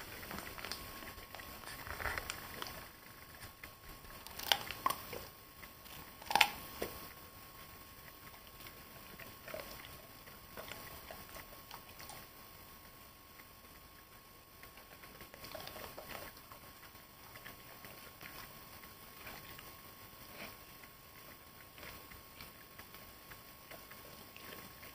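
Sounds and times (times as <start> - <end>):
dog crunching and chewing: 0.0 - 24.9.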